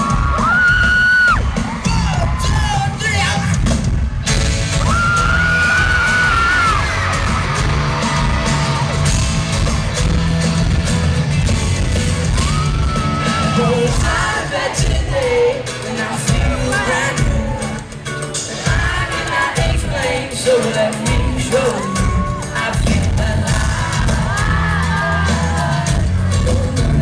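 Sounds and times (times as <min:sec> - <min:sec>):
crowd screaming and cheering: 0:00.0 - 0:27.0
live pop band playing: 0:00.0 - 0:27.0.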